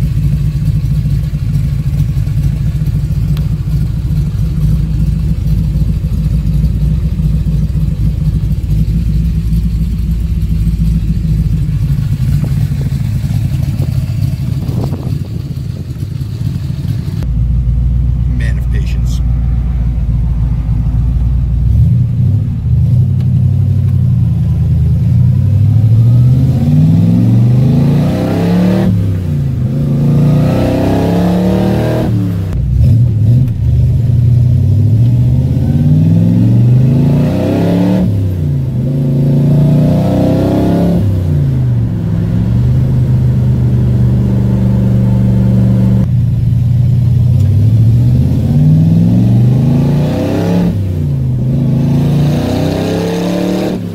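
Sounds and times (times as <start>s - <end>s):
car engine shifting through gears: 0.0s - 53.9s.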